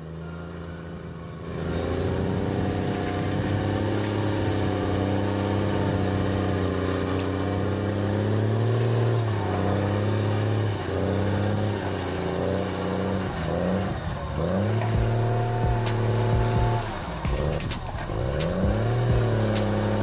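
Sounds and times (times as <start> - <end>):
heavy machine engine under load: 0.0 - 20.0.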